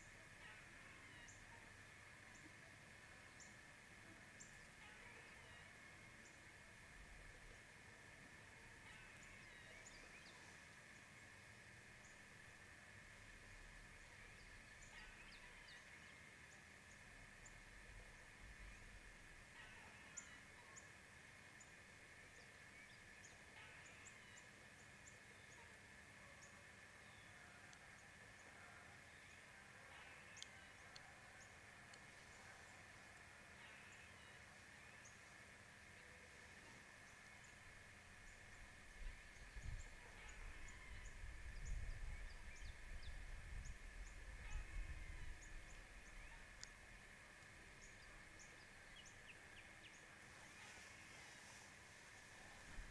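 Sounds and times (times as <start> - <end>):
high hiss-like hum: 0.0 - 52.9.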